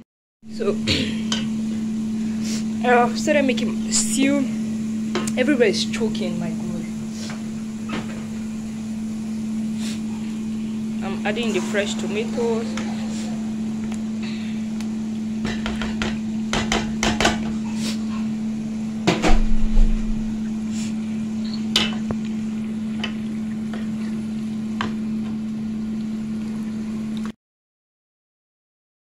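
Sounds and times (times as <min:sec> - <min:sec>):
steady low hum: 0:00.4 - 0:27.2.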